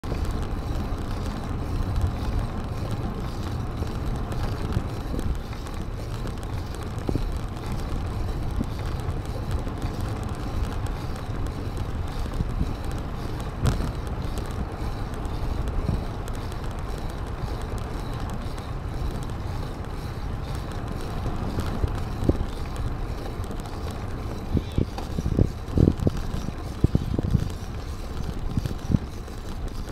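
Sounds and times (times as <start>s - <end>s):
tyres rolling on path: 0.0s - 29.9s
wind buffeting microphone: 0.0s - 29.9s.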